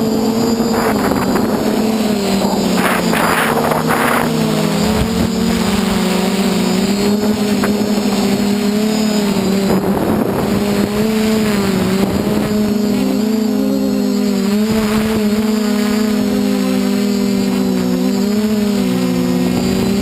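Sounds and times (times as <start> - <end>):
quadcopter motors buzzing: 0.0 - 20.0.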